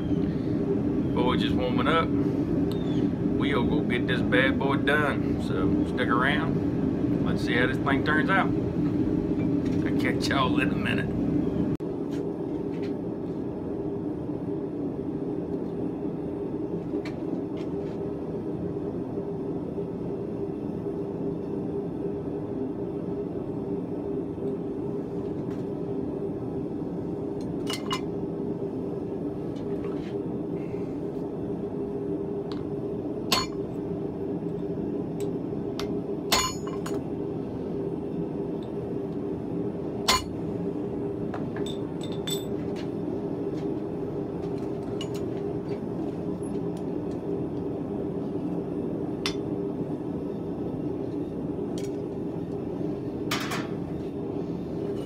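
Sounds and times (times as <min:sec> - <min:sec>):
forge humming: 0:00.0 - 0:55.0.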